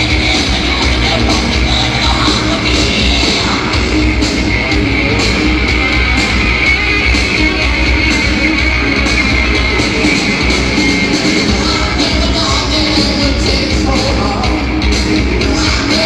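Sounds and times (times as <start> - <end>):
hard rock band playing: 0.0 - 16.0.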